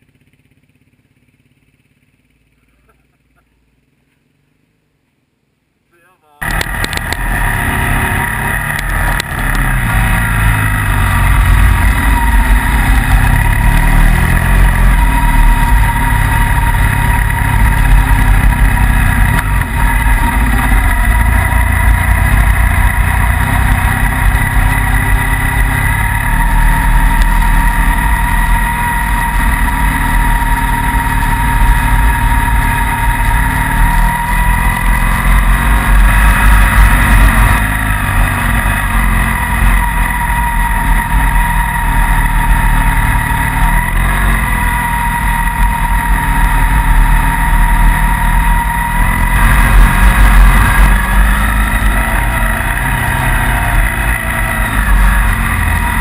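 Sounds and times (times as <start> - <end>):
motorcycle engine under load: 0.0 - 56.0
steady high whine: 0.0 - 56.0.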